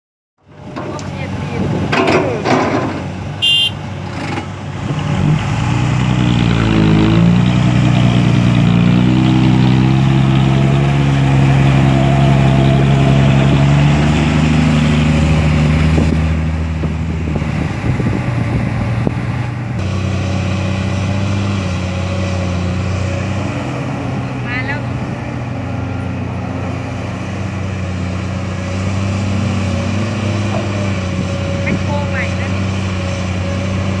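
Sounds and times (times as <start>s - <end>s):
excavator diesel engine revving: 0.4s - 34.0s.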